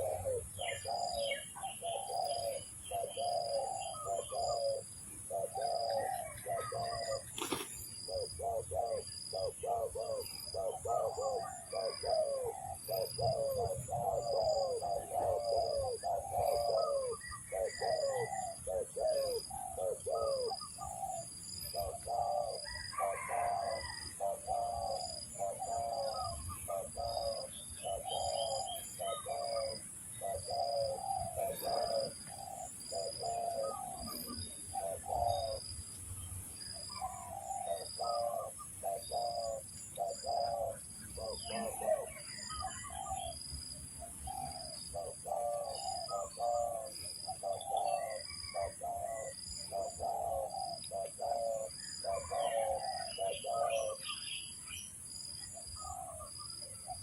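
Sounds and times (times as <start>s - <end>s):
doves cooing: 0.0s - 35.9s, 36.6s - 54.6s, 55.2s - 57.0s.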